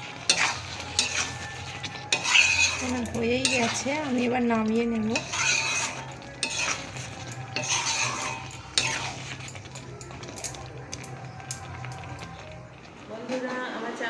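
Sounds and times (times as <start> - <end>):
metal spoon scraping pot: 0.0 - 12.7
soft sizzle: 0.0 - 14.0
spoon clinking against pan: 0.1 - 12.6.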